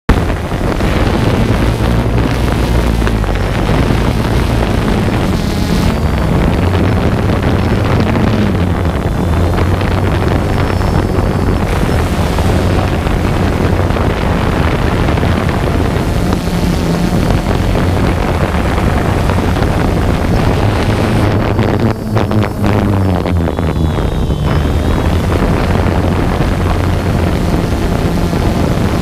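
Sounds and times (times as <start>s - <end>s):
low steady hum: 0.1s - 29.0s
wind buffeting microphone: 0.1s - 29.0s.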